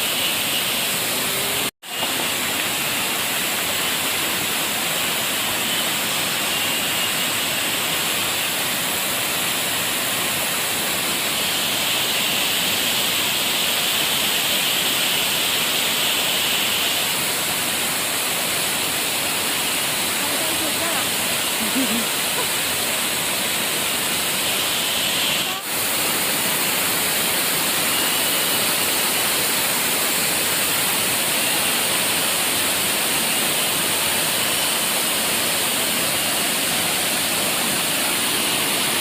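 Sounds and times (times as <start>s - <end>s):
waterfall pouring: 0.0s - 39.0s.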